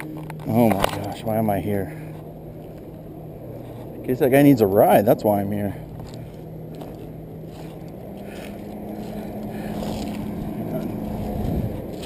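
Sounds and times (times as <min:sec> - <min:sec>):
rough low rumble: 0:00.0 - 0:12.0
vehicle engine humming: 0:00.0 - 0:12.0.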